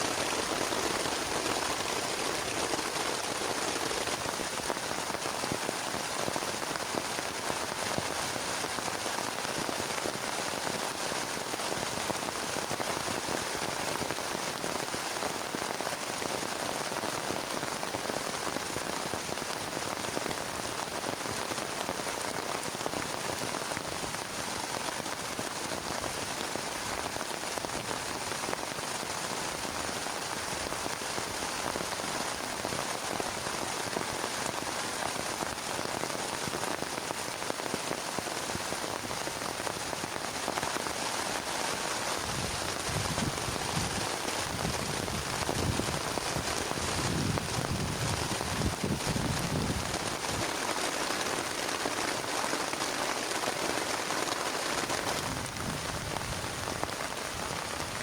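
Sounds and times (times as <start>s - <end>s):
heavy rain on plastic tarp: 0.0s - 58.0s.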